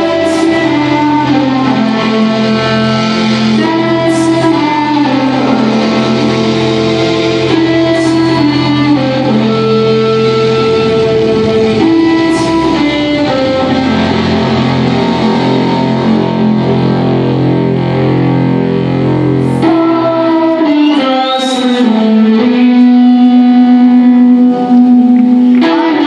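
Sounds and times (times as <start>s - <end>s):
distorted electric guitar: 0.0s - 26.0s
live rock band: 0.0s - 26.0s.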